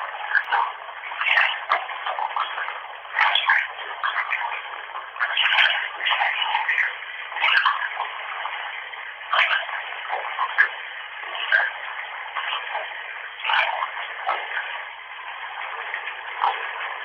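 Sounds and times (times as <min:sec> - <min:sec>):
bathwater running from a tap: 0:00.0 - 0:17.0.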